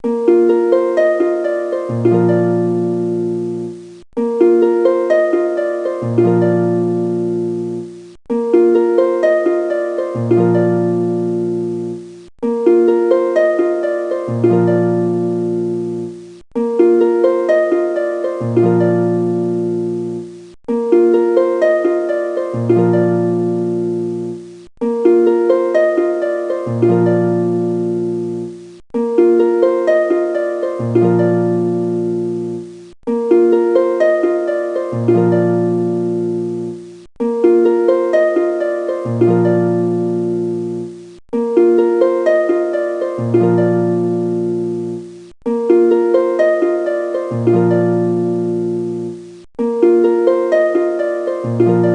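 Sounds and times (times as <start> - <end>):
plucked-string instrumental loop: 0.0 - 51.9.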